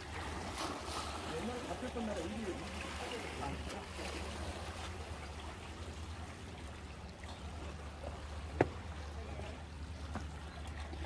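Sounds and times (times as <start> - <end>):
water lapping against rocks: 0.0 - 11.0.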